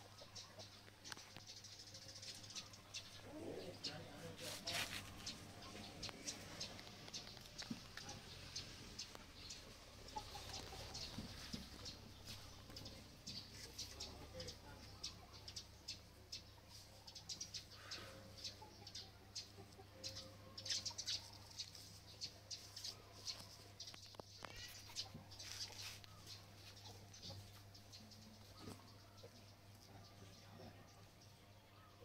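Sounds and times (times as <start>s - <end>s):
bird chirps and clucks: 0.0s - 32.0s.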